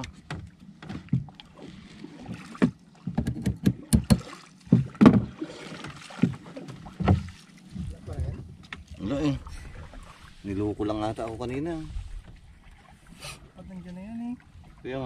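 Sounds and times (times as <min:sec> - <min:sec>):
knocks and clatter in a boat: 0:00.0 - 0:15.0
water splashing: 0:00.0 - 0:15.0.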